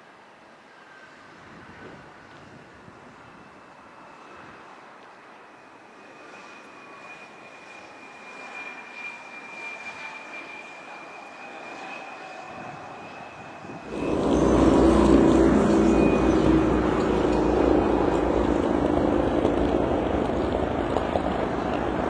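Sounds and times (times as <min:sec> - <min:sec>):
aircraft engine whine and rumble: 0:00.0 - 0:22.0.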